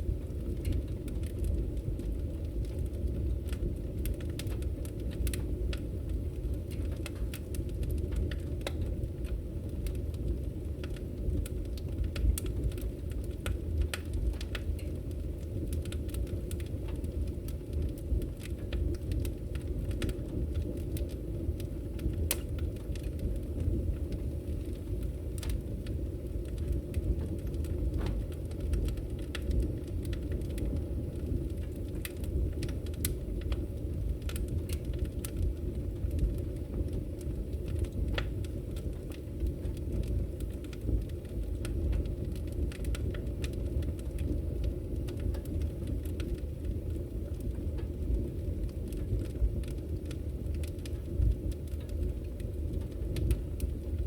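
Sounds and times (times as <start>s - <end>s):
fire flames roaring: 0.0s - 54.0s
logs crackling and popping: 0.0s - 54.0s.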